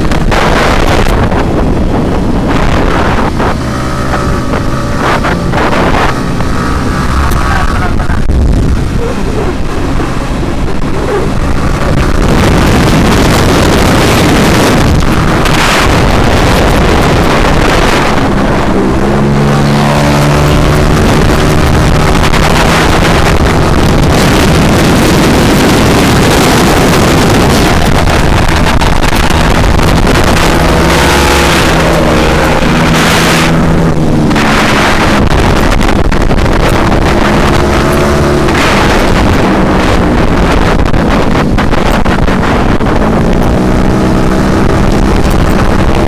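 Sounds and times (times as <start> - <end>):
motorcycle engine accelerating: 0.0 - 46.0
wind rush on microphone: 0.0 - 46.0.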